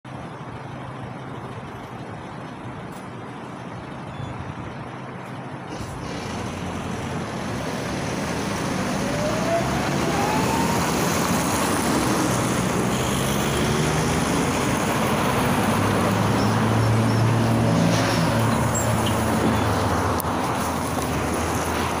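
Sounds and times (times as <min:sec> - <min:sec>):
bus engine running slowly: 0:00.1 - 0:22.0
passing road traffic: 0:00.1 - 0:22.0.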